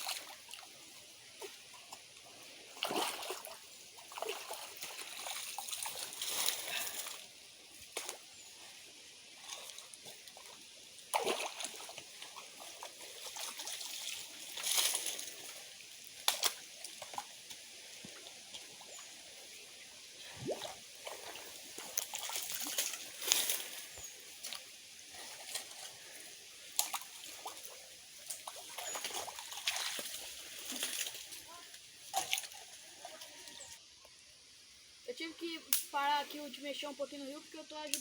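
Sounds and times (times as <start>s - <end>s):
muddy water sloshing and splashing: 0.0s - 33.8s.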